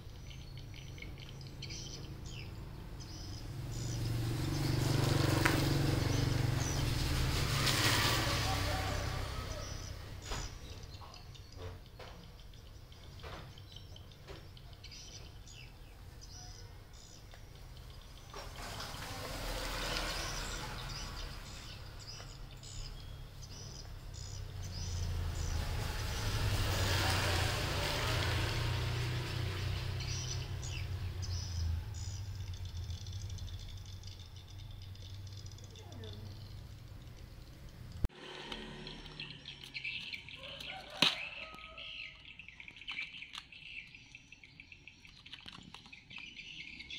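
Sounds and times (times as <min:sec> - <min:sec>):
motor vehicle passing: 0:00.0 - 0:12.1, 0:13.2 - 0:42.4
birds chirping faintly: 0:00.0 - 0:46.9.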